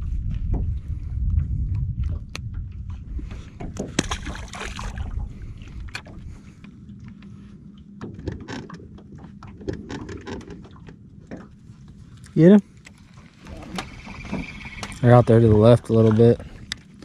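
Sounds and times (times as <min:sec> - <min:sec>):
faint steady hum: 0:00.0 - 0:17.0
water rumble: 0:00.0 - 0:17.0
wind: 0:00.0 - 0:17.0.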